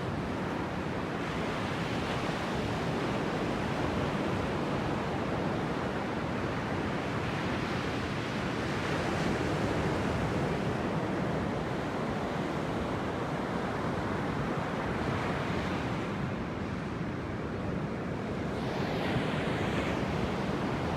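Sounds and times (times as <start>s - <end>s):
sea surf breaking on a beach: 0.1s - 20.9s.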